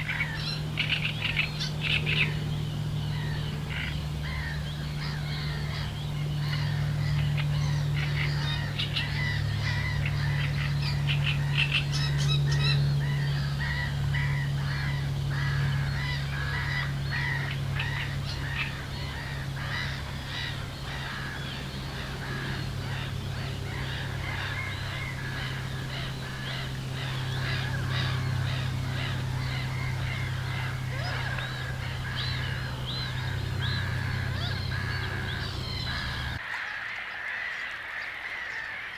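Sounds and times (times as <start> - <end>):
steady low hum: 0.0 - 36.4
birds chirping: 0.0 - 38.9
honking bird calls: 0.0 - 38.9.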